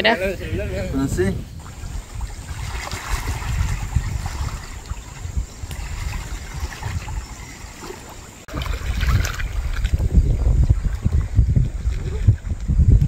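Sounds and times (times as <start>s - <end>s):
water lapping: 0.0s - 12.7s
wind buffeting microphone: 0.0s - 13.0s.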